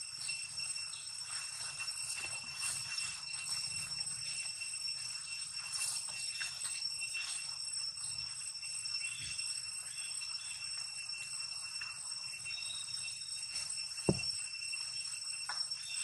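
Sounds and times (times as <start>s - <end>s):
high-pitched ringing tone: 0.0s - 16.0s.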